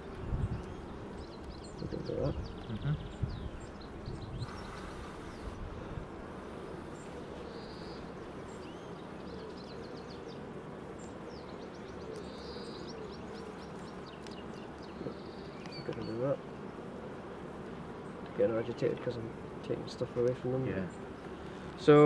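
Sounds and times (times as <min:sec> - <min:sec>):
bees buzzing: 0:00.0 - 0:22.0
small birds chirping: 0:00.0 - 0:22.0.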